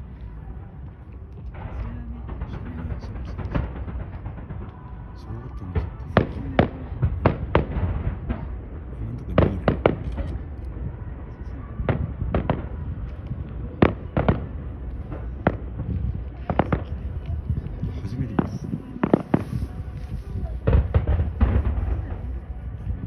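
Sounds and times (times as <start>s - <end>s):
fireworks bangs: 0.0s - 23.0s
steady low rumble: 0.0s - 23.0s.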